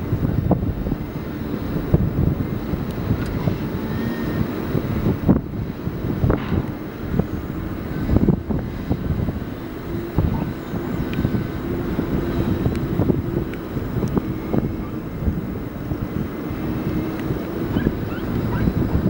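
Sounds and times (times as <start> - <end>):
diesel engine running: 0.0 - 19.0
wind buffeting microphone: 0.0 - 19.0.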